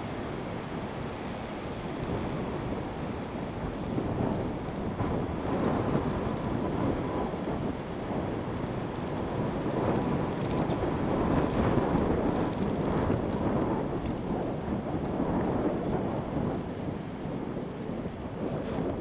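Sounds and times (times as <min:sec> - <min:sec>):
strong wind gusting over microphone: 0:00.2 - 0:19.0.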